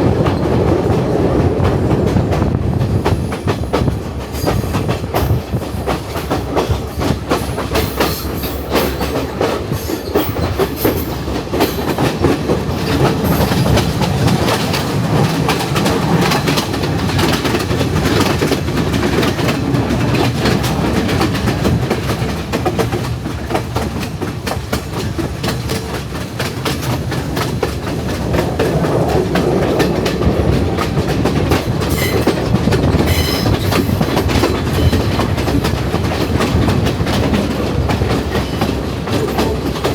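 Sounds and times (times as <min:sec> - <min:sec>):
train rumbling: 0:00.0 - 0:39.9
train wheel clatter: 0:00.0 - 0:39.9.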